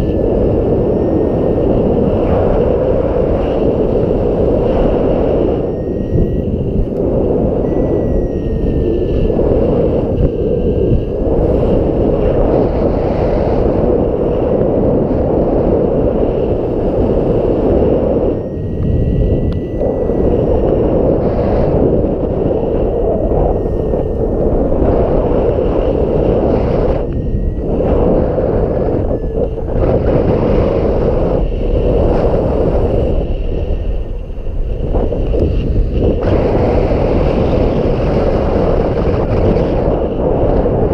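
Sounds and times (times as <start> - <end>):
strong wind buffeting microphone: 0.0 - 40.9.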